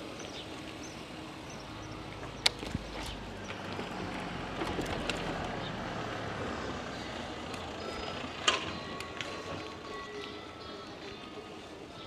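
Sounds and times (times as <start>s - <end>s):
bicycle ride noise: 0.0s - 12.0s.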